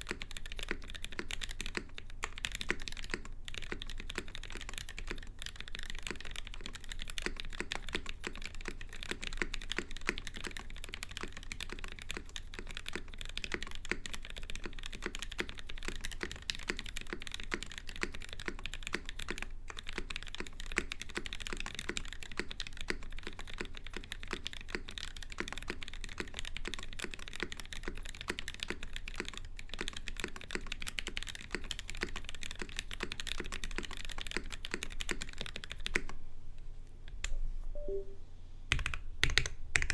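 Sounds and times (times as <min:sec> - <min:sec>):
fast typing on mechanical keyboard: 0:00.0 - 0:36.2, 0:38.7 - 0:39.9.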